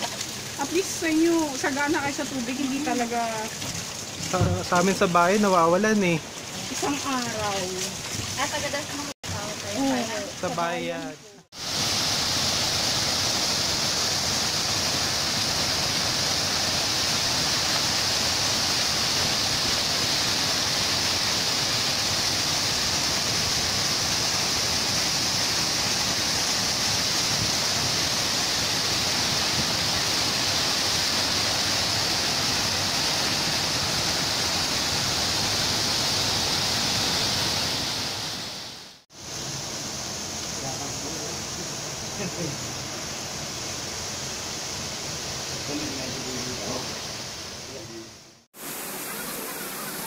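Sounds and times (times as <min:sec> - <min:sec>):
water rushing over a weir: 0:00.0 - 0:47.9, 0:48.6 - 0:50.0.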